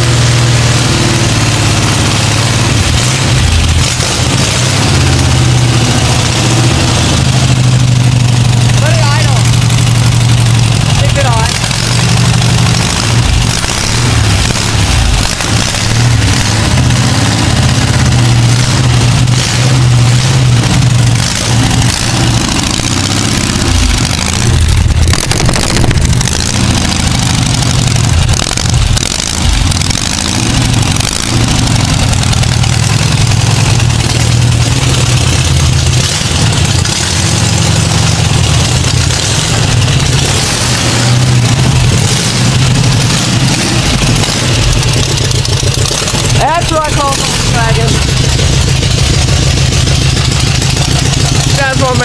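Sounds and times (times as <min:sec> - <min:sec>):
air-cooled engine idling: 0:00.0 - 0:52.0.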